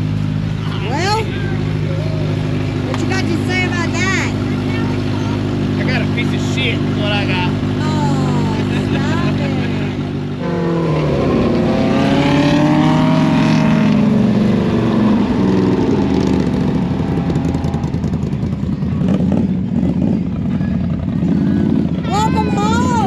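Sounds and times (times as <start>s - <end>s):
utility vehicle engine revving: 0.0s - 23.0s.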